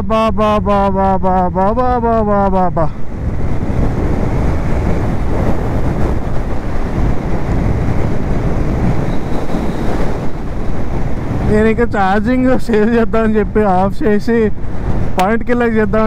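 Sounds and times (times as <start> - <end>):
motorcycle engine and road rumble: 0.0 - 16.0
wind rushing over microphone: 0.0 - 16.0.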